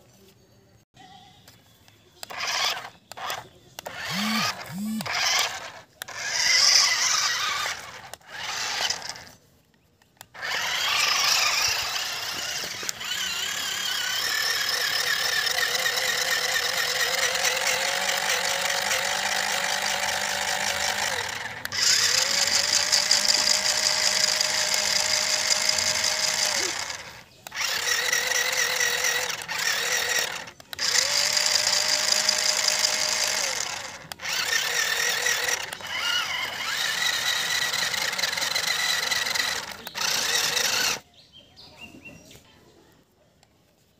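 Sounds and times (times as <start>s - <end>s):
electric motors whining: 2.2s - 9.4s, 10.2s - 41.0s
wheels spinning in dirt: 2.2s - 41.2s.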